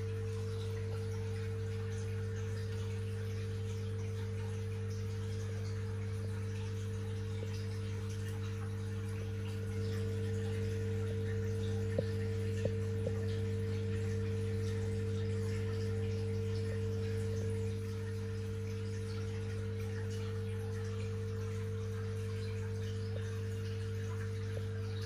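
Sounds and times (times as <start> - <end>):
aquarium pump hum: 0.0 - 25.0
faint water trickle: 0.0 - 25.0.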